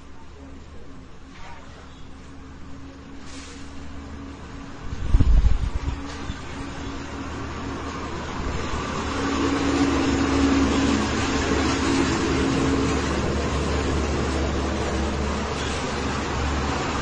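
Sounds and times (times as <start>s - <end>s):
trucks driving past: 0.0s - 17.0s.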